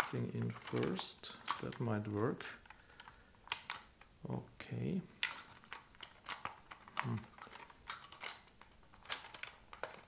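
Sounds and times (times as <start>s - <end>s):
sharp plastic clicks and knocks: 0.0s - 4.2s, 5.1s - 10.0s.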